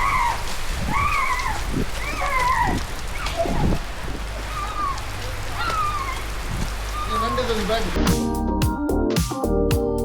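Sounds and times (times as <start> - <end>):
animal calling: 0.0 - 8.0
steady rain: 0.0 - 8.2.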